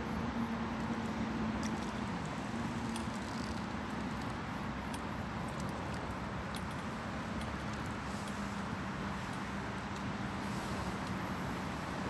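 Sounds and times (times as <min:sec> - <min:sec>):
faint high ticks: 0:00.1 - 0:12.0.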